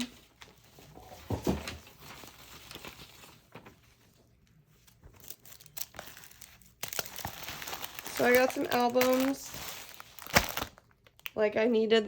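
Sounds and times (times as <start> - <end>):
packaging rustling: 0.2 - 4.1, 4.8 - 11.3.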